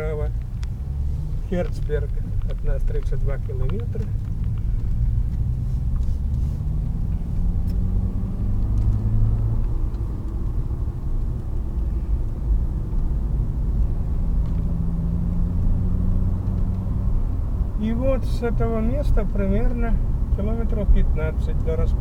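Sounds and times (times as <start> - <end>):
car engine: 0.0 - 22.0
road rumble: 0.0 - 22.0.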